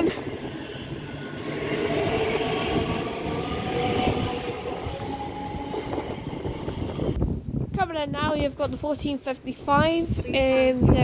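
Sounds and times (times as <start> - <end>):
train wheels rumbling on rail: 0.0 - 9.1.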